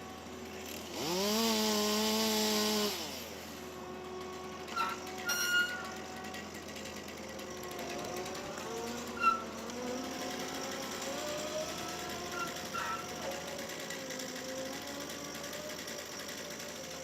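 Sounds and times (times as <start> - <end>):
tree-cutting machine engine whining: 0.0 - 17.0.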